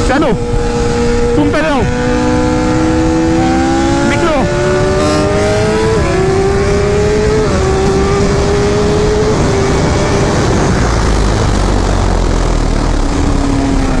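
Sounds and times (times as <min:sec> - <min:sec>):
motorcycle engine accelerating: 0:00.0 - 0:14.0
wind rushing over microphone: 0:00.0 - 0:14.0.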